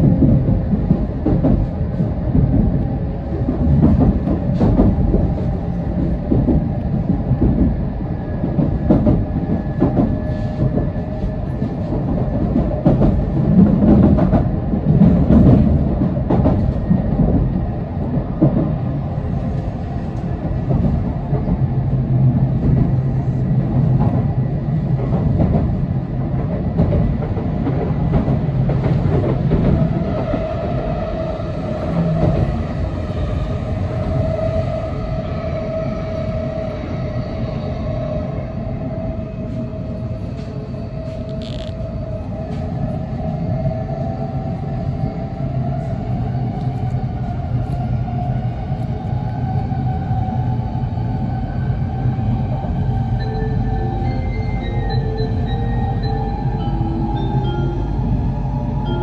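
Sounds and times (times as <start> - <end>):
passing train hum and hiss: 0.0 - 59.0
train wheels rumbling on rail: 0.0 - 59.0.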